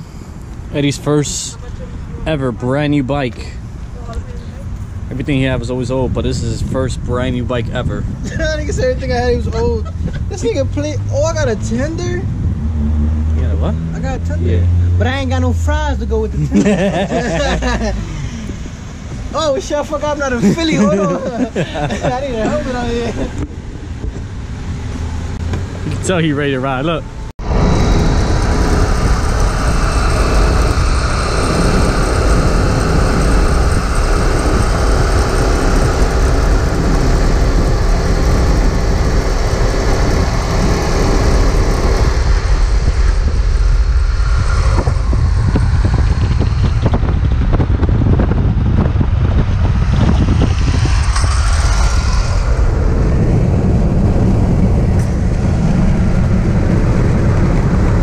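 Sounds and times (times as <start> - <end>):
road and wind noise inside car: 0.0 - 58.0.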